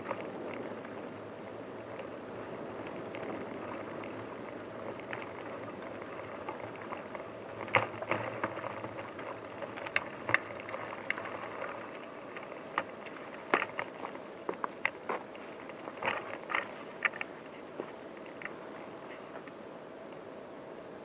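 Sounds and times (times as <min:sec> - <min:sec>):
rustle over forest floor: 0:00.0 - 0:19.5.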